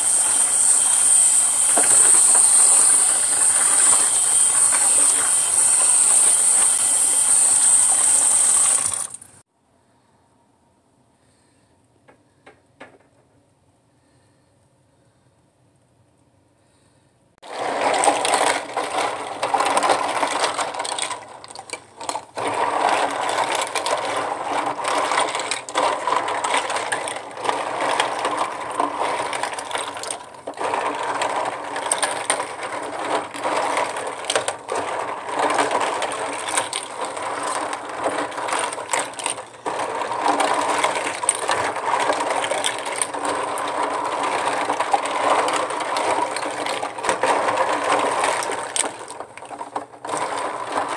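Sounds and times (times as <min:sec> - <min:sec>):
plastic tubes clattering: 0:00.0 - 0:09.4, 0:17.4 - 0:50.9.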